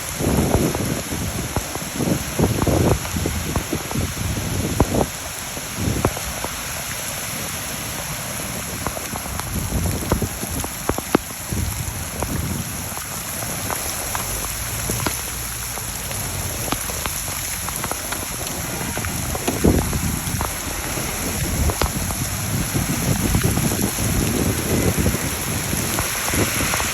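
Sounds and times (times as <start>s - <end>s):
rain hissing steadily: 0.0s - 26.9s
raindrops tapping close by: 0.0s - 26.9s.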